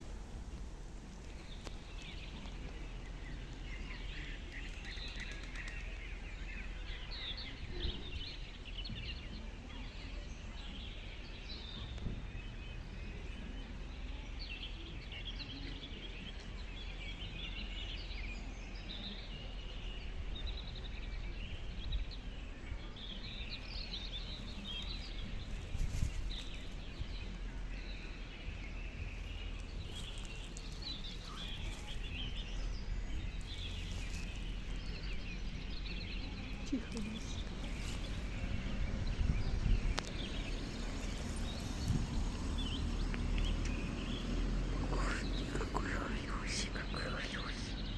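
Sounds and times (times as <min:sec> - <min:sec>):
low outdoor rumble: 0:00.0 - 0:47.9
small birds chirping: 0:00.0 - 0:47.9.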